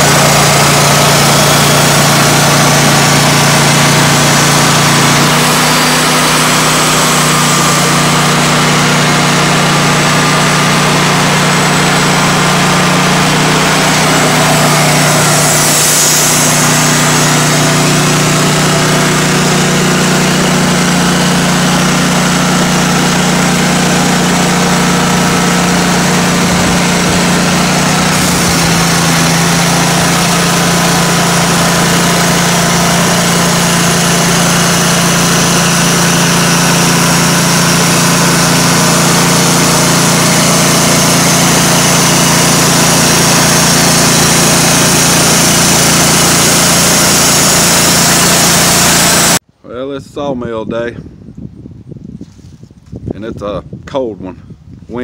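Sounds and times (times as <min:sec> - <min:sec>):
band sawmill cutting log: 0:00.0 - 0:49.4.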